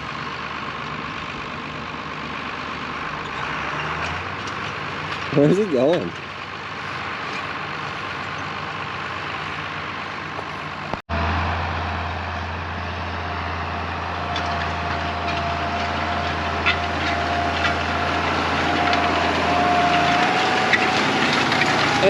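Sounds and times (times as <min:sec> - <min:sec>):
deep engine drone: 0:00.0 - 0:22.0
tractor engine running: 0:00.0 - 0:22.0.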